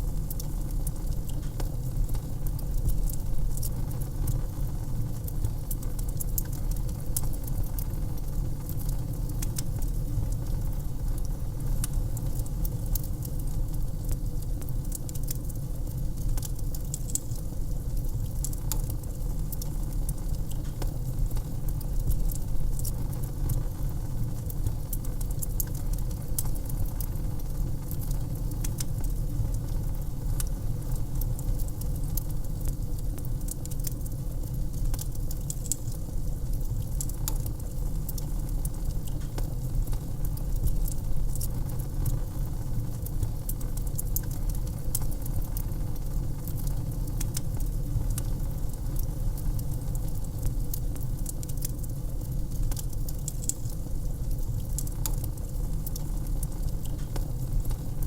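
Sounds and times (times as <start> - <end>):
fire crackling and popping: 0.0 - 58.0
low fire rumble: 0.0 - 58.0.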